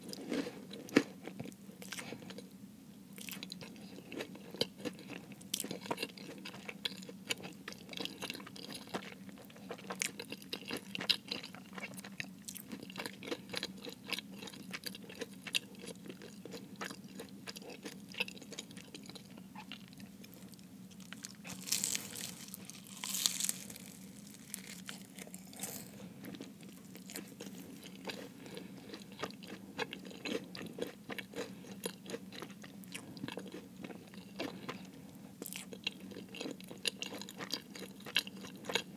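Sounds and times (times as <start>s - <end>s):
chewing crunchy pastry: 0.0s - 2.5s, 3.1s - 38.9s.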